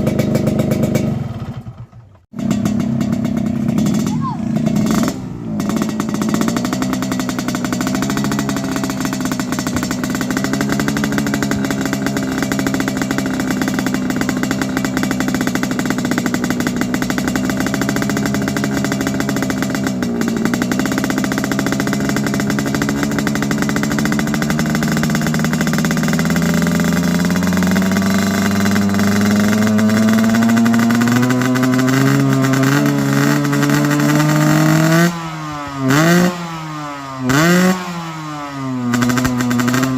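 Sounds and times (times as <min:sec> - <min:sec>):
two-stroke motorcycle engine: 0:00.0 - 0:39.9.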